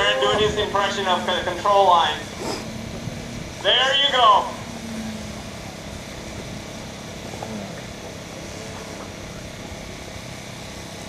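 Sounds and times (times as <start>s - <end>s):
distant model plane motor: 0.0s - 11.0s
steady outdoor hiss: 0.0s - 11.0s.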